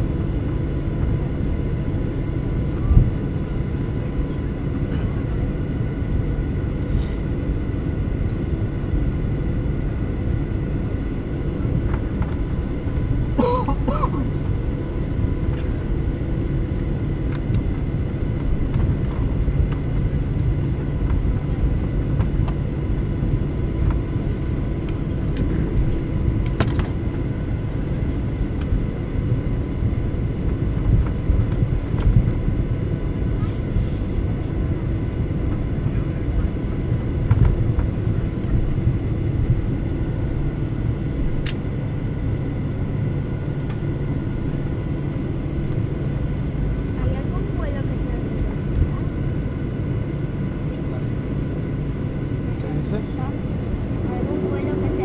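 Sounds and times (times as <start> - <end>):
aircraft cabin low rumble: 0.0 - 55.0
steady whine: 0.0 - 55.0.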